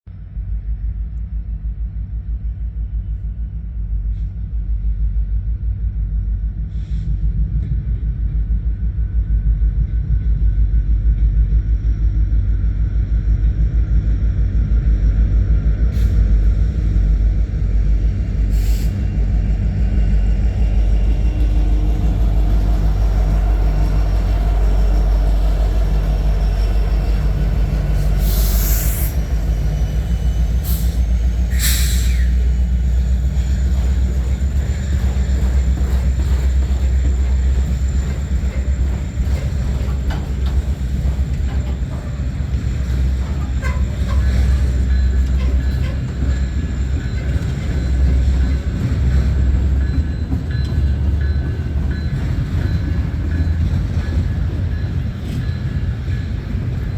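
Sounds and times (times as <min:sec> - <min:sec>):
diesel locomotives rumbling: 0:00.1 - 0:56.9.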